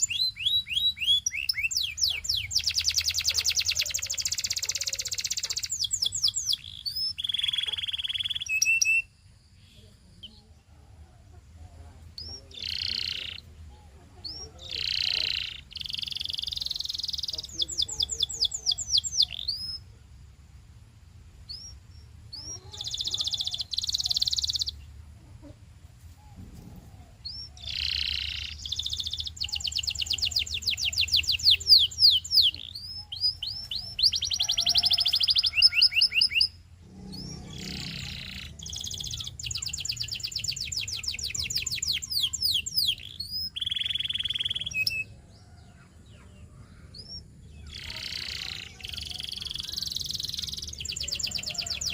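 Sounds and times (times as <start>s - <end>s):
canary singing trills: 0.0s - 20.0s, 21.4s - 25.6s, 26.2s - 51.9s.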